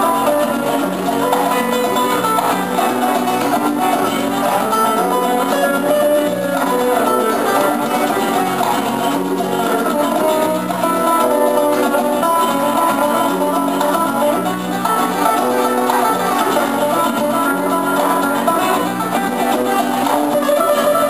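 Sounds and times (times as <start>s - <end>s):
acoustic guitars picking: 0.0s - 21.0s
bass line: 0.0s - 21.0s.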